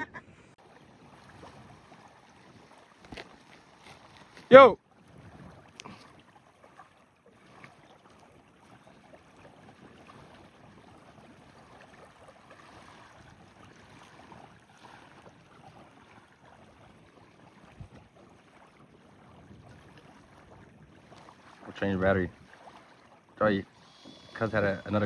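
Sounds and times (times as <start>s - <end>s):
water on a lake: 0.0s - 25.0s
wind: 0.0s - 25.0s.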